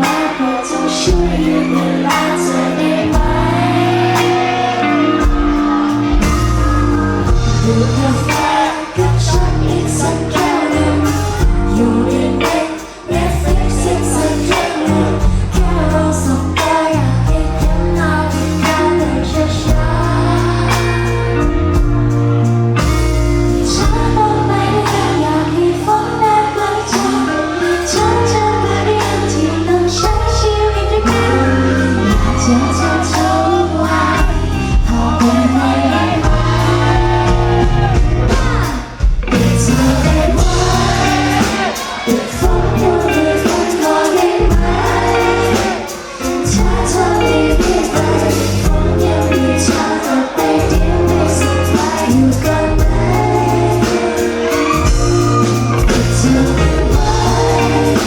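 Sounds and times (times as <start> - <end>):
pop song with female singing: 0.0 - 58.0.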